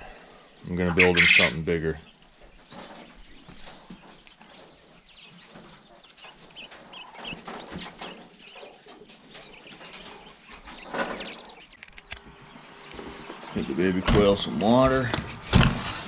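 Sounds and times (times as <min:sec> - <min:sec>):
farm birds chirping and clucking: 0:00.0 - 0:16.0.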